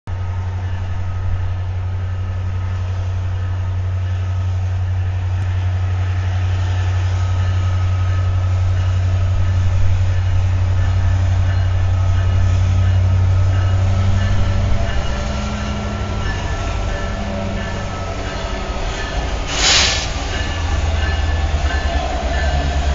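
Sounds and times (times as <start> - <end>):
diesel locomotives passing: 0.1 - 22.9.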